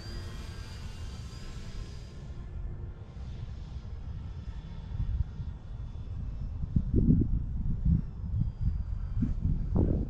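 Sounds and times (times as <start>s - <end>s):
model plane motor whine: 0.0s - 10.0s
wind rumbling on microphone: 0.0s - 10.0s.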